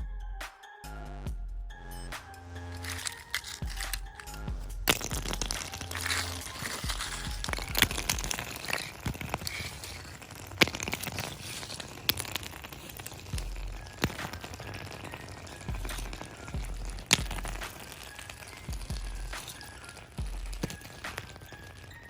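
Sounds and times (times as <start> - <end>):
ice scraper chipping ice: 2.6 - 22.0.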